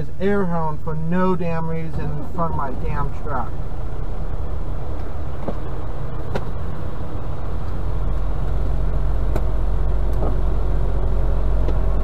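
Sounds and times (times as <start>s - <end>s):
diesel truck engine idling: 1.4s - 12.0s.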